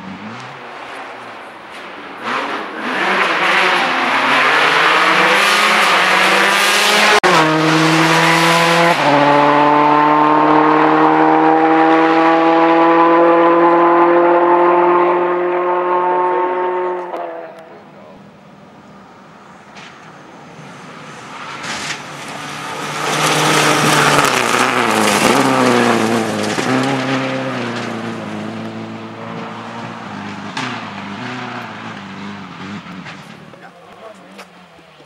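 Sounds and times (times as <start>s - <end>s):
rally car engine revving: 0.0s - 18.2s, 20.4s - 35.0s.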